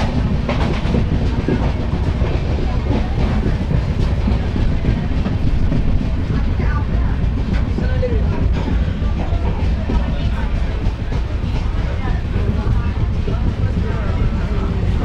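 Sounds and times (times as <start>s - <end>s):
train coach rumbling: 0.0s - 15.0s
train wheels clicking: 0.0s - 15.0s.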